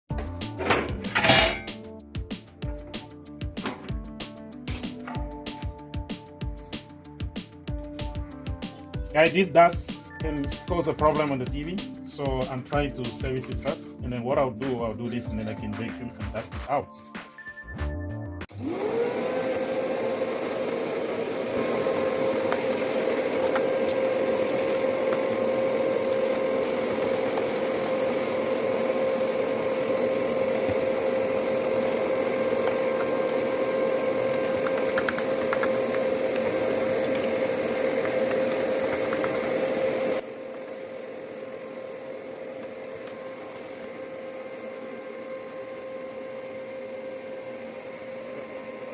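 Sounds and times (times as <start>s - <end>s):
vacuum cleaner running: 0.2s - 16.8s, 18.4s - 48.9s.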